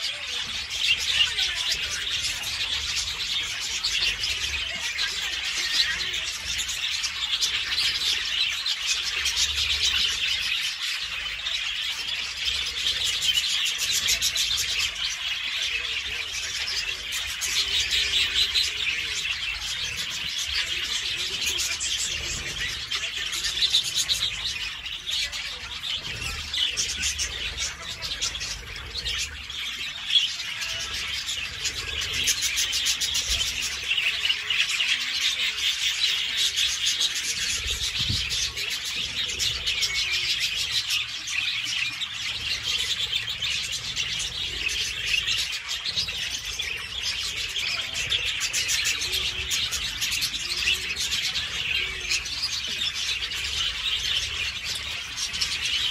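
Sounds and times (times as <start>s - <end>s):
budgerigars chattering and chirping: 0.0s - 55.9s.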